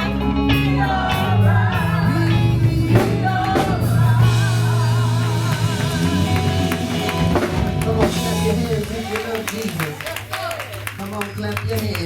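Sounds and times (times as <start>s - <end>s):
gospel band playing: 0.0s - 12.0s.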